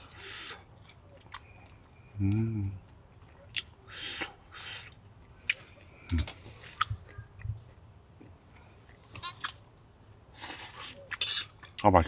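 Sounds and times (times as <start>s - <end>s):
person chewing: 0.0s - 7.1s, 8.2s - 9.6s, 10.4s - 11.8s.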